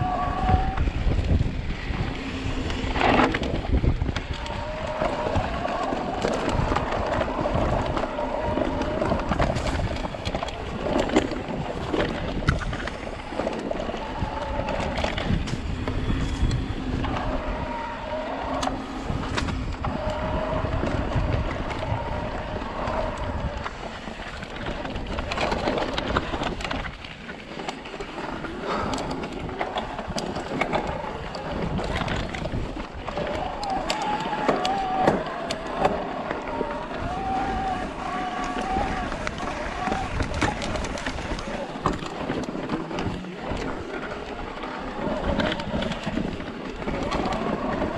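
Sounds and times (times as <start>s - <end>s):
bike rumbling over rough trail: 0.0s - 47.9s
electric bike motor whining: 0.0s - 47.9s
wind on microphone: 0.0s - 47.9s.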